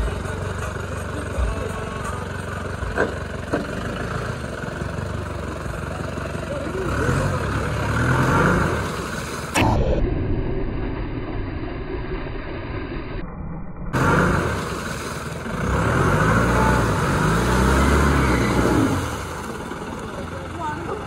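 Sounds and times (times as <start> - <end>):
vehicle engine revving: 0.0 - 10.0, 13.9 - 21.0.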